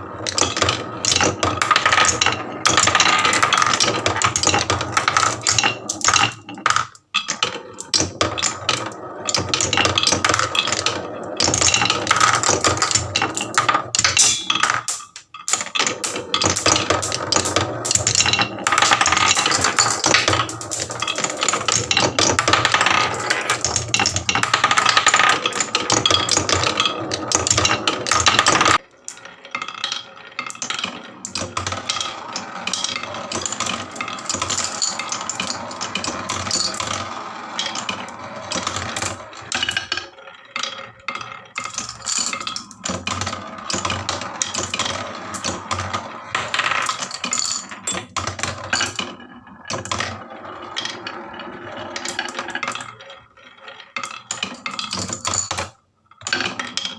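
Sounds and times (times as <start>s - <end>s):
marbles clattering down wooden track: 0.0s - 56.9s.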